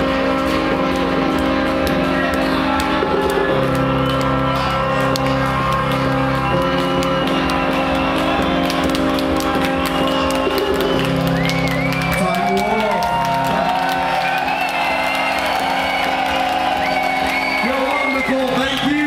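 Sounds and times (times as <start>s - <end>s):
loud techno music: 0.0s - 19.0s.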